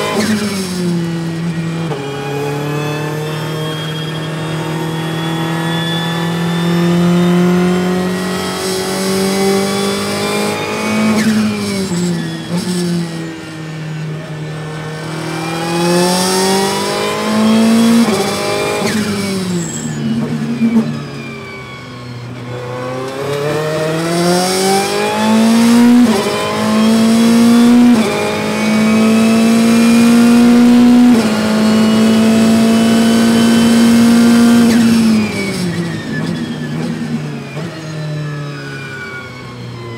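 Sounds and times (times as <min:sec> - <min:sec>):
race car engine with upshifts: 0:00.0 - 0:39.9.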